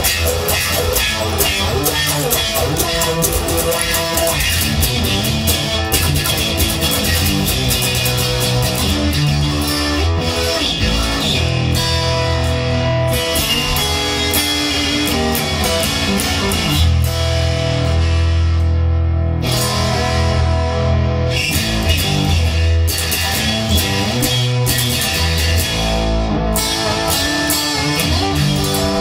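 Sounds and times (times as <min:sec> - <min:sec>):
instrumental rock music: 0:00.0 - 0:29.0.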